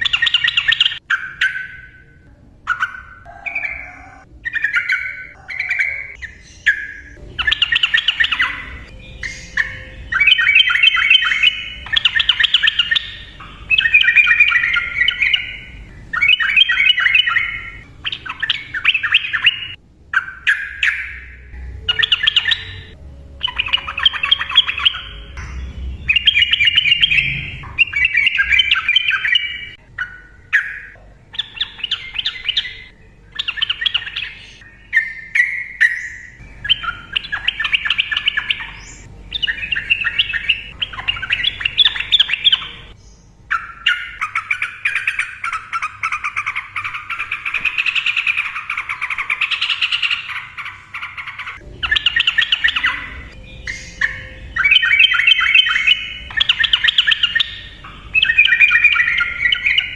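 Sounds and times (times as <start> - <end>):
bird singing rapid song: 0.0 - 59.9.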